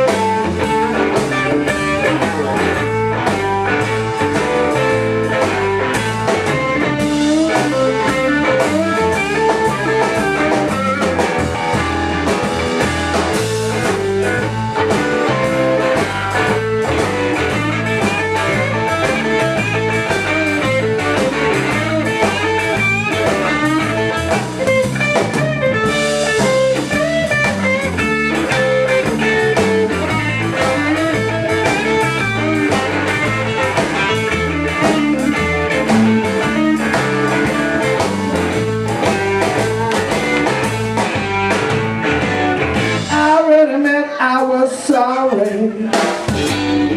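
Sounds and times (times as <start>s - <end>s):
electric bass: 0.0s - 43.8s, 44.9s - 46.9s
drum kit: 0.0s - 46.9s
electric guitar: 0.0s - 46.9s.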